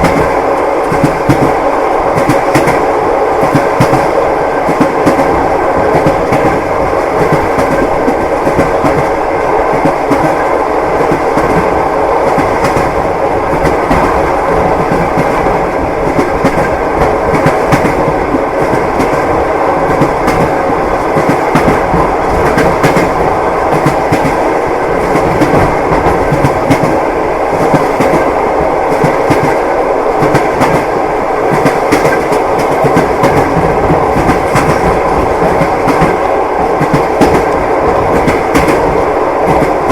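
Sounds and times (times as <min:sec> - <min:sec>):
train carriage rumble: 0:00.0 - 0:39.9
train wheels clickety-clack: 0:00.0 - 0:39.9.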